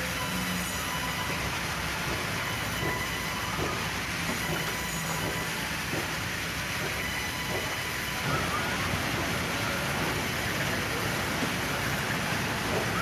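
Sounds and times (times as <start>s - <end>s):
band saws running: 0.0s - 13.0s.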